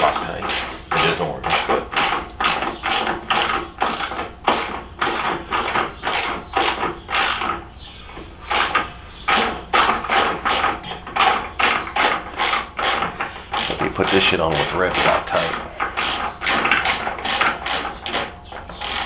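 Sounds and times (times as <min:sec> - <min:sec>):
ratchet wrench clicking: 0:00.0 - 0:07.5, 0:08.5 - 0:19.0.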